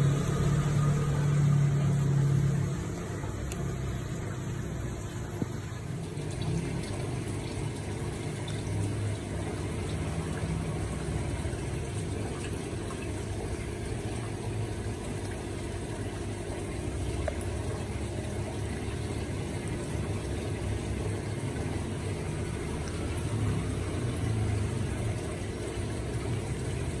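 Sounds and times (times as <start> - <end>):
pump humming: 0.0 - 27.0
running water: 0.0 - 27.0.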